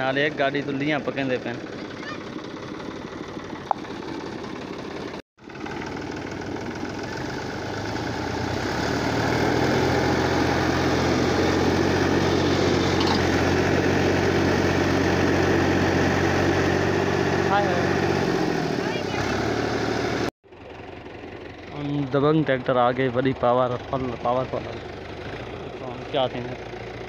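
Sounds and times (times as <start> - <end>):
diesel tractor engine under load: 0.0 - 27.0.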